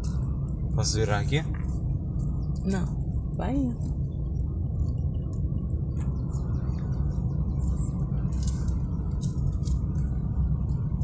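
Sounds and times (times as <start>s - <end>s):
car engine and tyres rumble: 0.0s - 11.0s.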